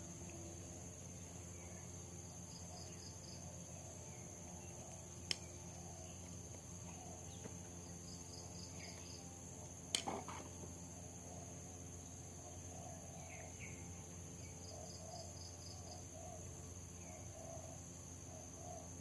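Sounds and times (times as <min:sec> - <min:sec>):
faint insect buzz: 0:00.0 - 0:19.0.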